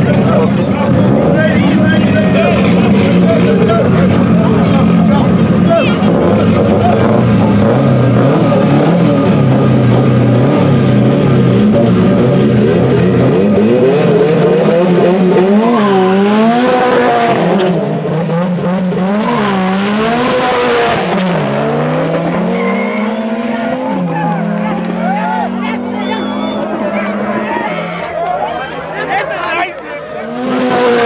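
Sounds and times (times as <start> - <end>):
cars accelerating hard: 0.0 - 31.0
race car engines revving: 0.0 - 31.0.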